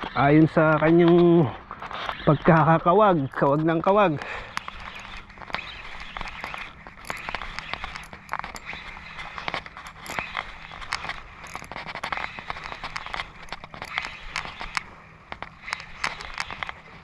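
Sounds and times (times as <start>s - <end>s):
fishing reel clicking and whirring: 1.9s - 17.0s.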